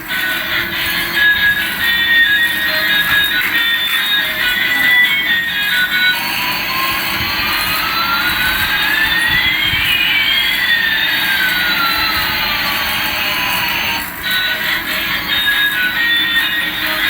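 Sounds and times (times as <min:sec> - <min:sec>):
toy jet engine sound effect: 0:00.0 - 0:17.0.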